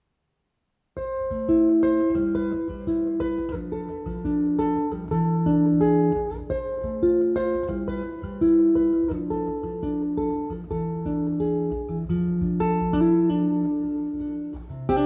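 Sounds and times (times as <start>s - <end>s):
plucked guitar melody: 1.0s - 15.0s.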